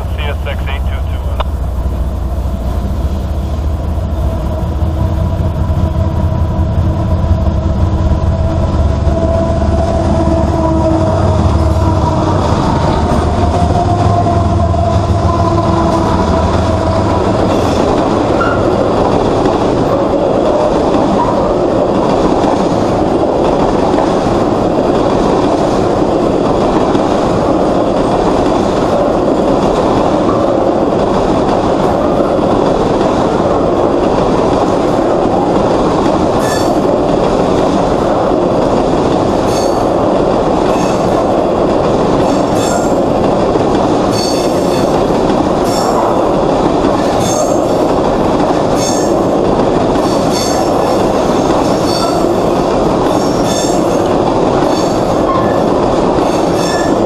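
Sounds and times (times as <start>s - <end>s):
diesel locomotive engine rumble: 0.0s - 57.0s
locomotive whine: 0.0s - 57.0s
train wheels rushing on rails: 0.0s - 57.0s.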